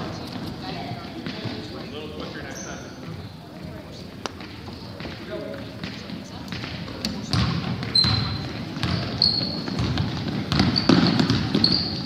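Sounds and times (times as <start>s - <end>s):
crowd chatter: 0.0s - 12.0s
sneakers squeaking on floor: 0.0s - 12.0s
basketball bouncing: 0.3s - 1.8s, 3.0s - 12.0s.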